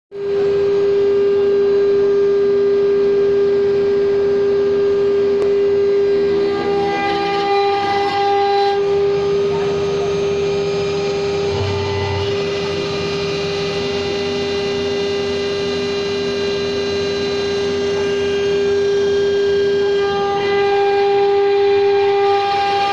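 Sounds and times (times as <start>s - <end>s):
router spindle whine: 0.1s - 22.9s.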